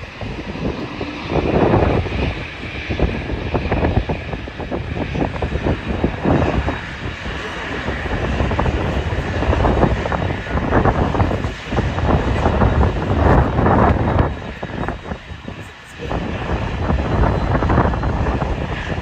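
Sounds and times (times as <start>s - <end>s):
jet engine noise: 0.0s - 19.0s
wind buffeting microphone: 0.0s - 19.0s.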